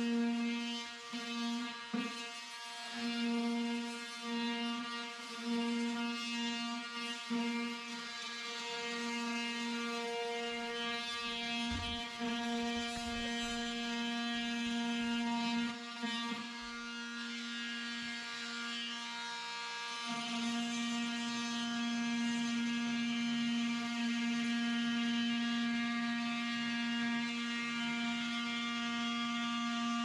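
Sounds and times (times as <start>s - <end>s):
power tool motor whining: 0.0s - 30.0s.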